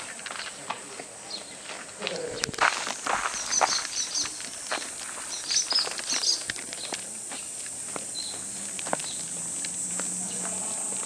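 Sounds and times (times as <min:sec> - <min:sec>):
footsteps on paved path: 0:00.0 - 0:11.0
high insect drone: 0:01.2 - 0:11.0.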